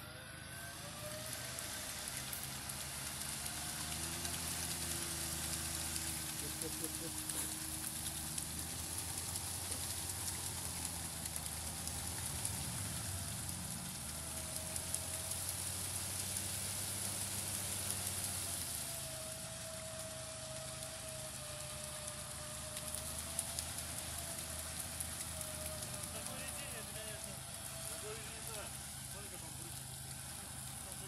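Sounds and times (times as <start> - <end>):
engine droning under load: 0.0 - 31.0
wheels churning in mud: 0.0 - 31.0.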